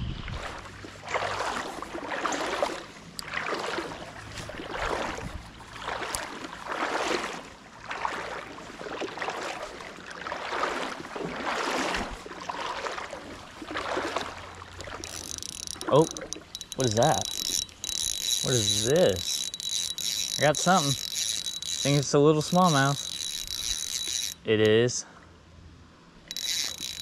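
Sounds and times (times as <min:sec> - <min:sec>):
legs wading through shallow water: 0:00.2 - 0:24.4.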